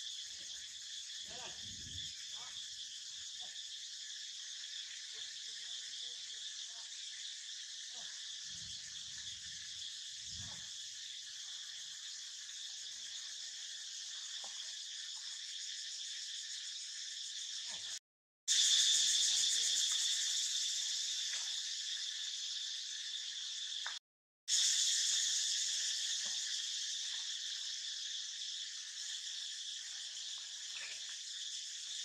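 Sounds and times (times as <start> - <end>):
insect chorus droning: 0.0 - 32.0.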